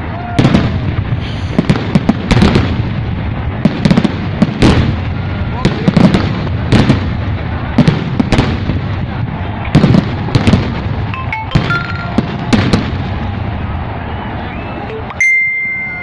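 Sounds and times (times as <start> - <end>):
fireworks sharp bangs: 0.0 - 14.5
fireworks crackling rumble: 0.0 - 15.2.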